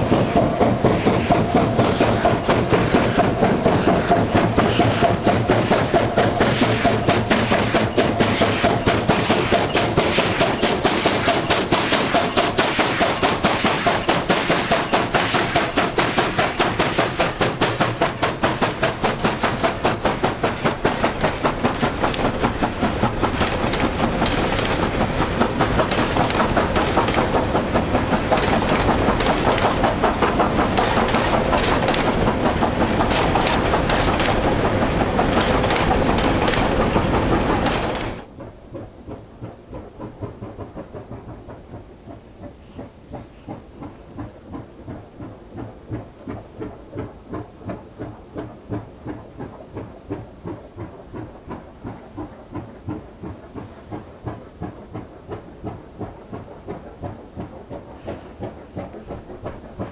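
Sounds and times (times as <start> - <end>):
train wheels clattering over rail joints: 0.0 - 59.9.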